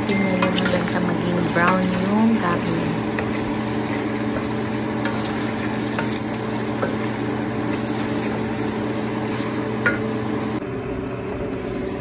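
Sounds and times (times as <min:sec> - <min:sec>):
meat sizzling in oil: 0:00.0 - 0:10.6
steady low hum: 0:00.0 - 0:12.0.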